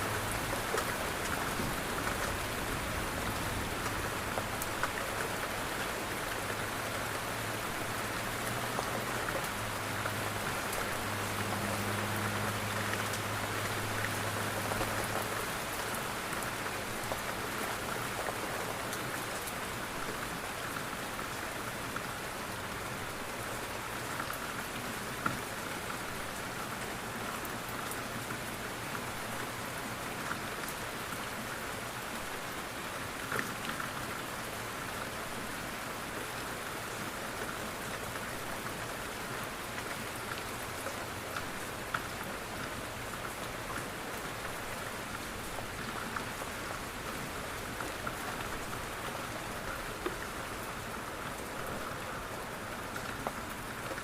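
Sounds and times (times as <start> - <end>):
rain on a window pane: 0.0 - 54.0.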